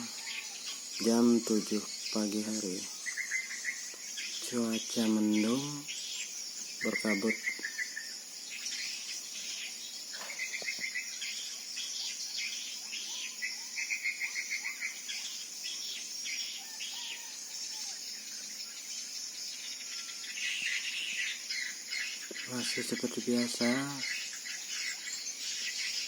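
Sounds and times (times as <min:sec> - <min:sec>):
high buzz of insects: 0:00.0 - 0:26.0
small birds chirping: 0:00.0 - 0:26.0.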